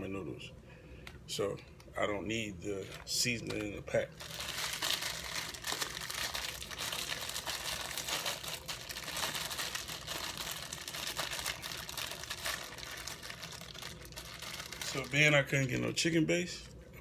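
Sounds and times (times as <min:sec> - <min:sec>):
plastic wrappers crinkling: 0:02.7 - 0:16.7.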